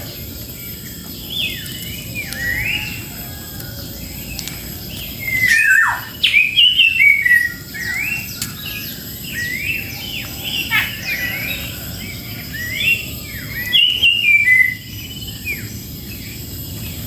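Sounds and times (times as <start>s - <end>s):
bird singing whistled notes: 0.6s - 17.0s.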